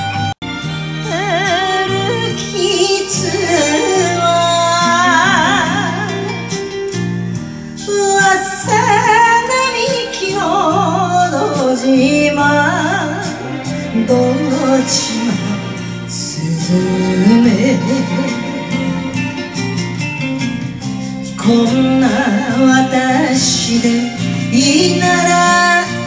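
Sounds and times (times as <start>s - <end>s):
recorded backing track: 0.0s - 26.0s
woman singing into microphone: 1.0s - 6.8s, 7.8s - 19.1s, 21.3s - 26.0s.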